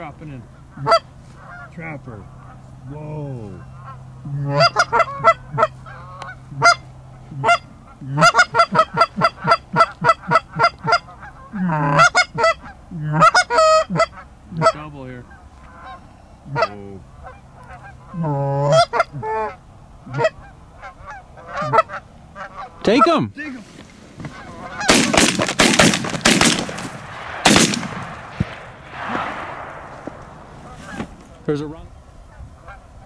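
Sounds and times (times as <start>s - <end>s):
geese honking and clucking: 0.0s - 33.0s.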